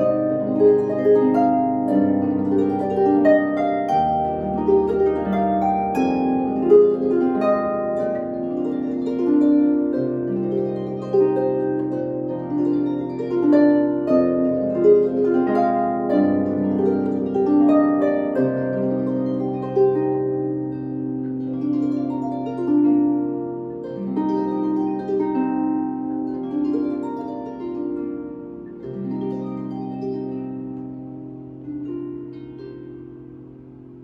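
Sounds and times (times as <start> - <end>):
solo harp playing: 0.0 - 34.0.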